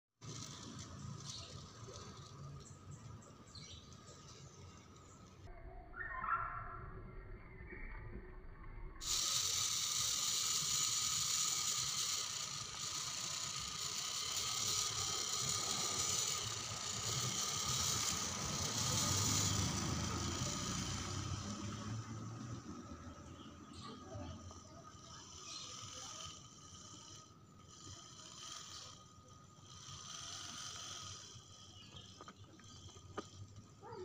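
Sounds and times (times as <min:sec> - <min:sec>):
electric motor and gears whining: 0:00.2 - 0:05.5, 0:09.0 - 0:34.0.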